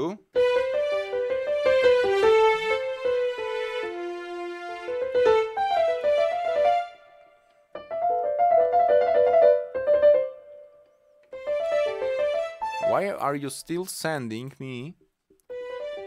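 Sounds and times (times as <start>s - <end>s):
digital piano melody: 0.0s - 13.7s, 15.4s - 16.0s.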